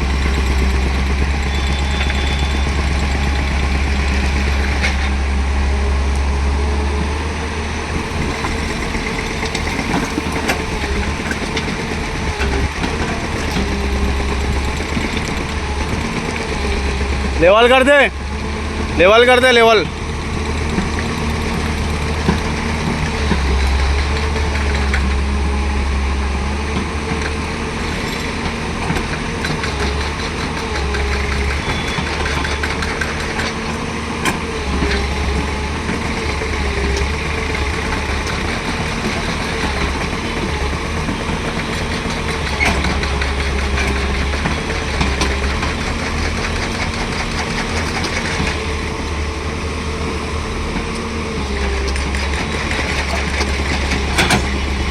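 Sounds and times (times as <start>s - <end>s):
excavator diesel engine droning: 0.0s - 54.9s.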